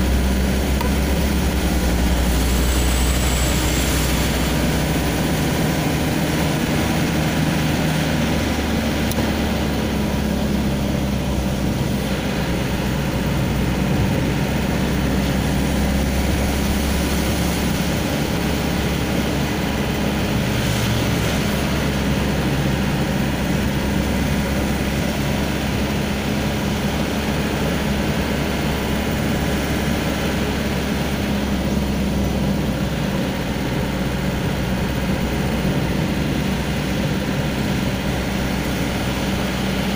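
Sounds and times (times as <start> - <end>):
road and tyre noise: 0.0 - 39.9
vehicle engine running: 0.0 - 39.9.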